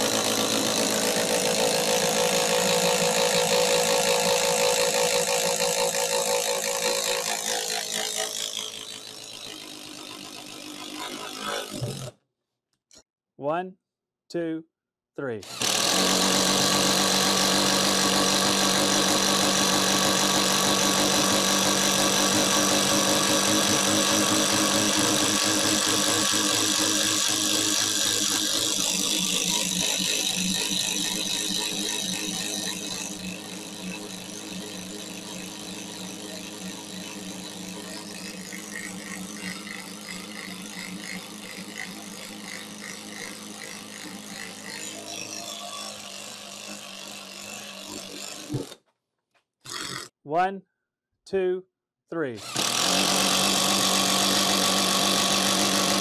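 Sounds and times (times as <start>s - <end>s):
impact driver boring into wood: 0.0s - 12.2s, 15.4s - 48.8s, 49.6s - 50.2s, 52.4s - 56.0s.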